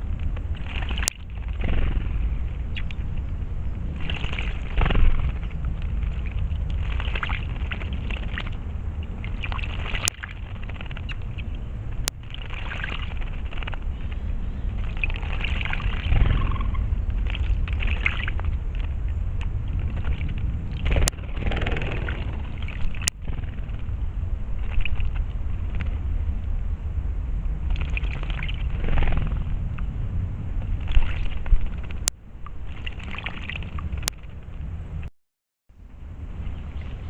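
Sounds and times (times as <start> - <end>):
low rumble: 0.0 - 35.1, 35.7 - 37.0.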